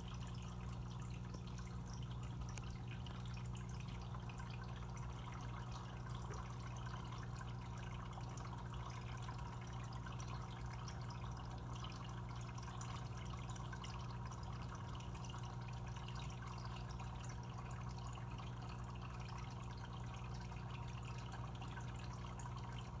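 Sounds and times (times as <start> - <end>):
pump humming: 0.0 - 23.0
water trickling: 0.0 - 23.0.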